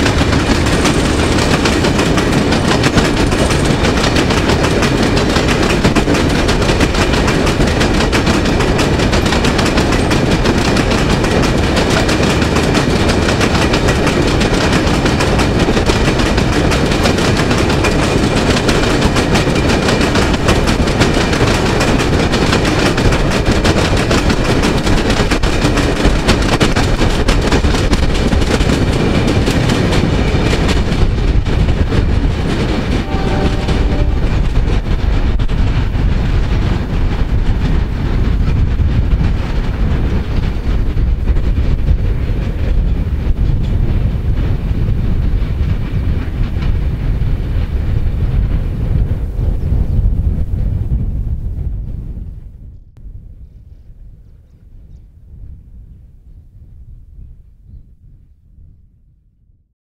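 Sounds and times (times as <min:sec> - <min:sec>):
train wheels clattering on rails: 0:00.0 - 0:51.0.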